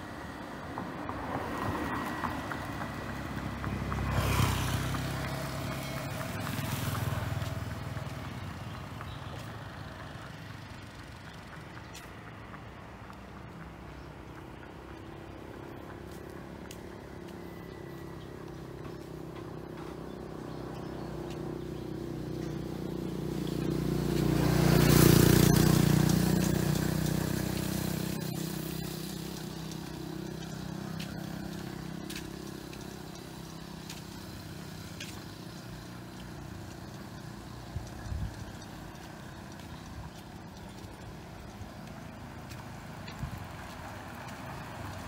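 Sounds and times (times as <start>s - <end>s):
vehicle passing by: 0.0s - 45.0s.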